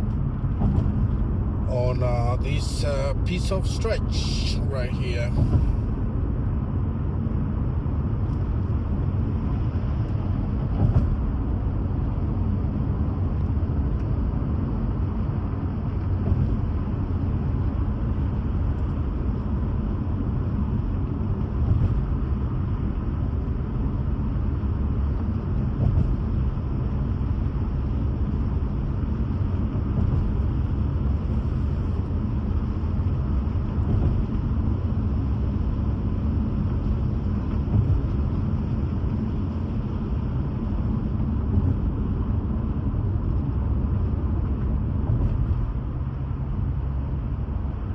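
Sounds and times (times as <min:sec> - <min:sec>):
car driving interior rumble: 0:00.0 - 0:47.9.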